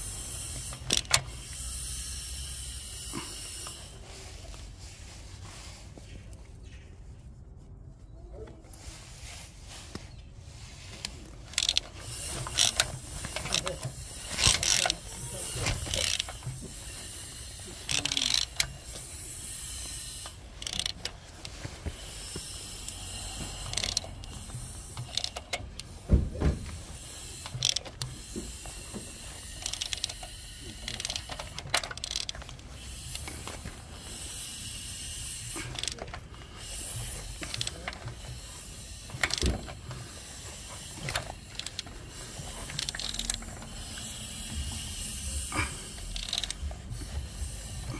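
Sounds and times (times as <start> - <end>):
socket ratchet clicking: 0.0 - 3.8, 11.5 - 26.0, 26.9 - 47.9.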